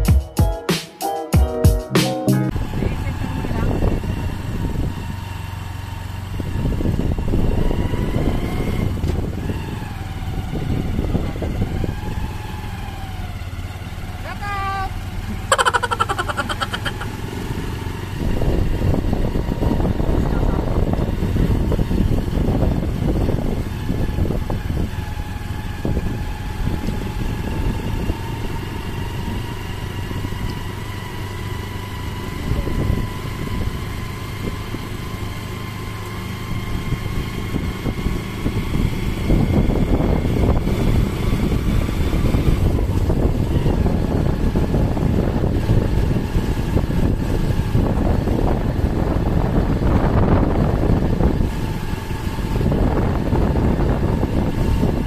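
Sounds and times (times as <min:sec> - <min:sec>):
thin engine whine: 0:02.5 - 0:14.3, 0:14.9 - 0:55.0
motorcycle engine rumble: 0:02.5 - 0:55.0
wind and road noise: 0:02.5 - 0:55.0.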